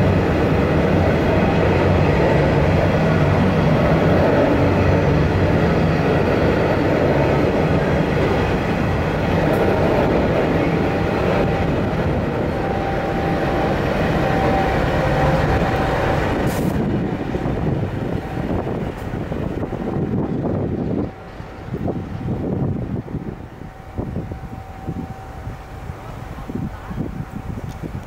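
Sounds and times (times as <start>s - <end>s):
steel wheels rumbling on track: 0.0s - 28.0s.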